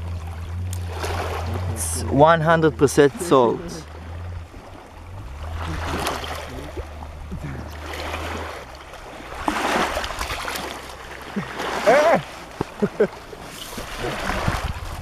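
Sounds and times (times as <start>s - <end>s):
water washing at shoreline: 0.0s - 15.0s.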